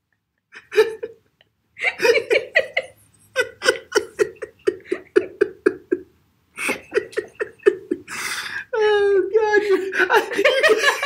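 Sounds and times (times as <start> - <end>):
person laughing hard: 0.6 - 1.2, 1.8 - 11.0.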